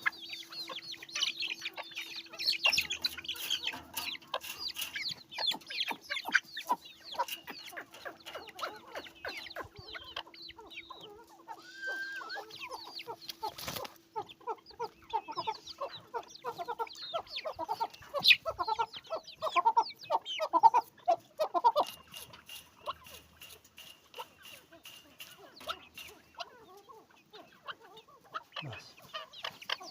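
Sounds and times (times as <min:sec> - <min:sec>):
chicks peeping and clucking: 0:00.0 - 0:29.9.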